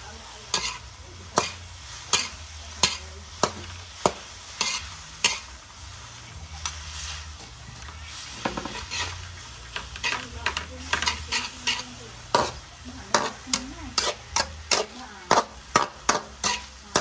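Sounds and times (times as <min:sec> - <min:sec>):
food sizzling: 0:00.0 - 0:17.0
ladle knocking and scraping wok: 0:00.5 - 0:05.6, 0:08.4 - 0:17.0.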